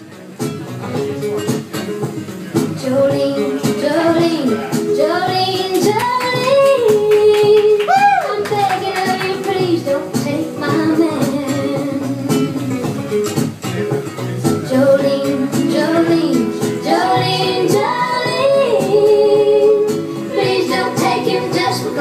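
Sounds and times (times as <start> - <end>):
pop song over sound system: 0.4 - 22.0.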